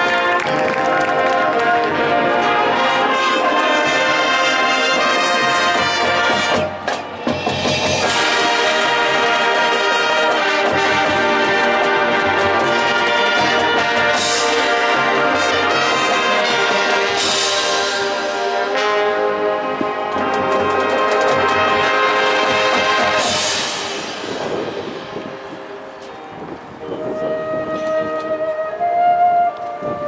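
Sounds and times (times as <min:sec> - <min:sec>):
marching band percussion: 0:00.0 - 0:26.3
marching band brass: 0:00.0 - 0:30.0.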